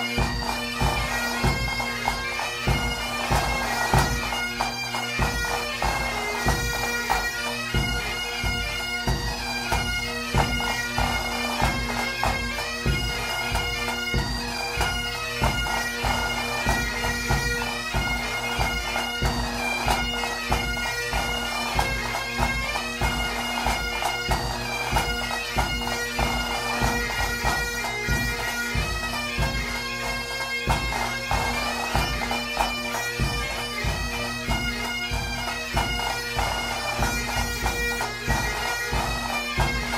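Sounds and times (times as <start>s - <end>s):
bagpipes playing melody: 0.0s - 39.9s.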